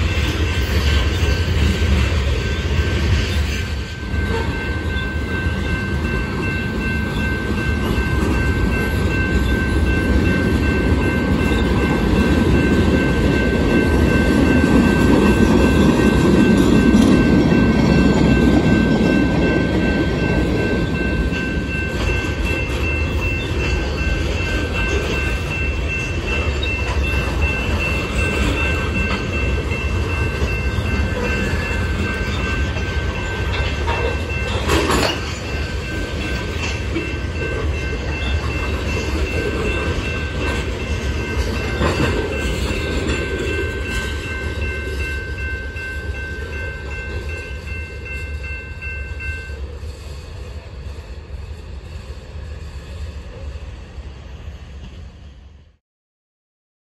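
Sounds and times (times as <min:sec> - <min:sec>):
train wheels rumbling on rails: 0:00.0 - 0:55.8.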